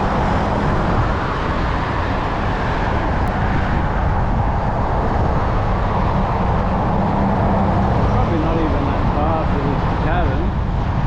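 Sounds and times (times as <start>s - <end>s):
bike road noise: 0.0s - 11.0s
wind rushing: 0.0s - 11.0s.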